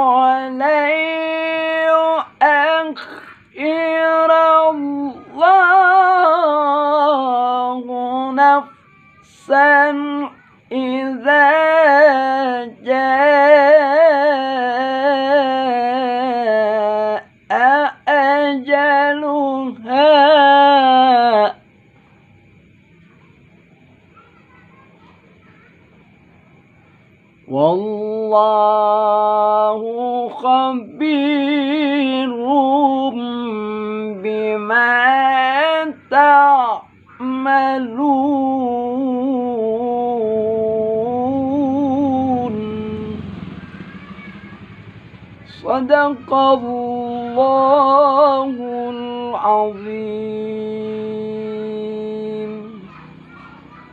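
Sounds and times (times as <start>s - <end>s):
man chanting melodic recitation: 0.0s - 21.6s, 27.5s - 43.9s, 45.4s - 53.8s.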